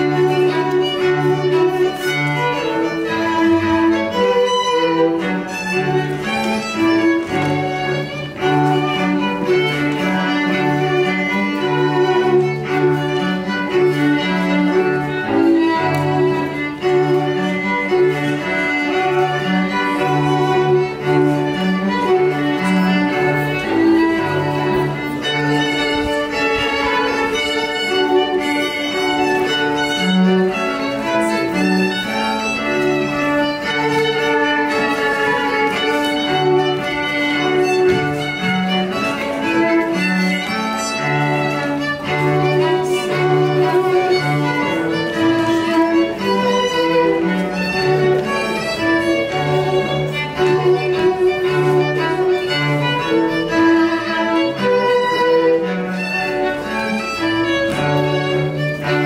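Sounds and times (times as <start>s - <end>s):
violin tune over bowed strings: 0.0s - 59.0s.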